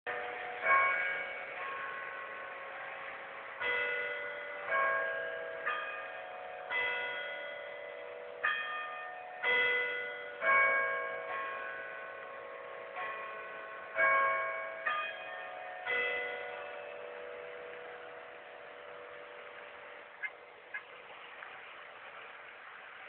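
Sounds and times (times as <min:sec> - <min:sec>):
clock tower bells chiming: 0:00.1 - 0:20.3.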